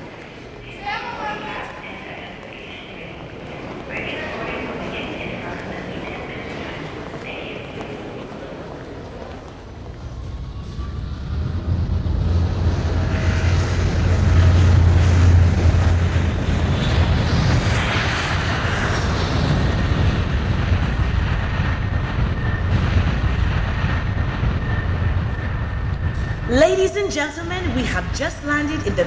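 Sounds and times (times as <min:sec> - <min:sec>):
rushing jet noise: 0:00.0 - 0:29.0
low engine rumble: 0:01.8 - 0:29.0.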